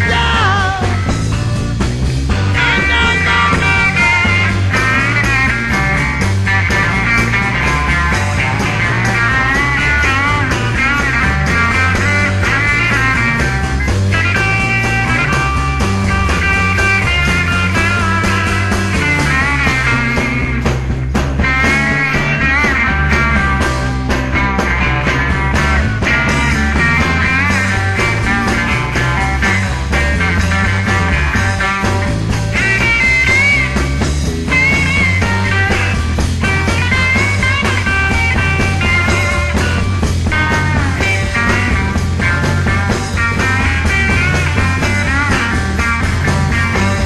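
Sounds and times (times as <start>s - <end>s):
bass line: 0.0s - 47.0s
drums: 0.0s - 47.0s
lead guitar with bent notes: 0.0s - 47.0s.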